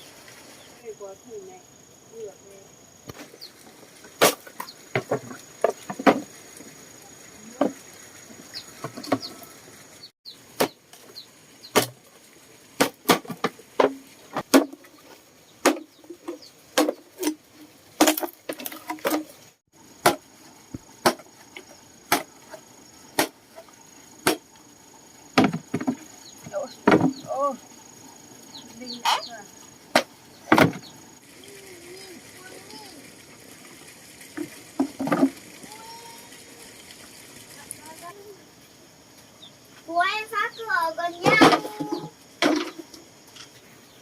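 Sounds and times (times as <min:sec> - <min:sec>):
high insect drone: 0:00.0 - 0:15.2, 0:17.3 - 0:44.0.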